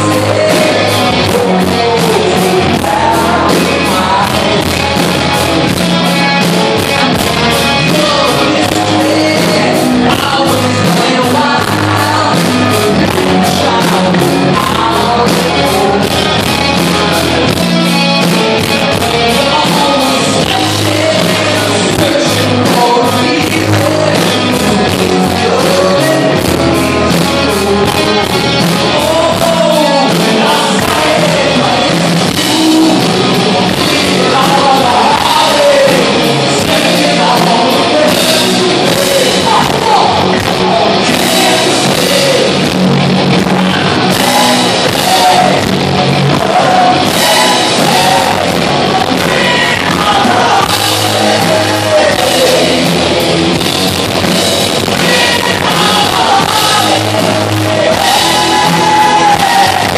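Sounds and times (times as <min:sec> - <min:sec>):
bass guitar: 0:00.0 - 0:59.9
drums: 0:00.0 - 0:59.9
electric guitars: 0:00.0 - 0:59.9
lead singer singing: 0:00.0 - 0:59.9.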